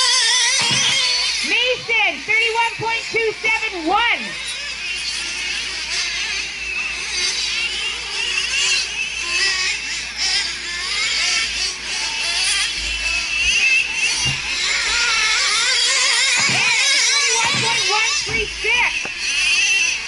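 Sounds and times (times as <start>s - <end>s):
rc truck engines revving and whining: 0.0s - 20.0s.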